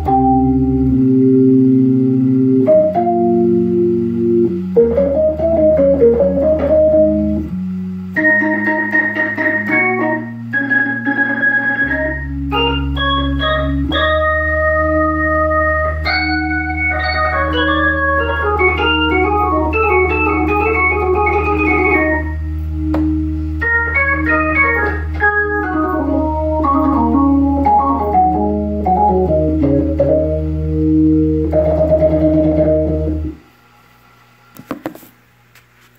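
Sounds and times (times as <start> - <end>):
organ playing: 0.0 - 33.4.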